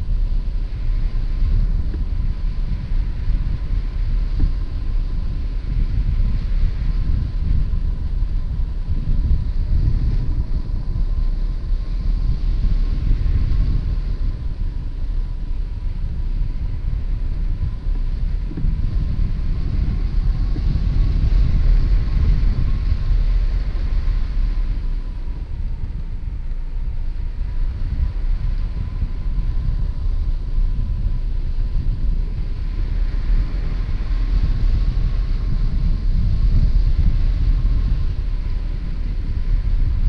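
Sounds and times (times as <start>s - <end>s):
wind buffeting on microphone: 0.0s - 40.0s.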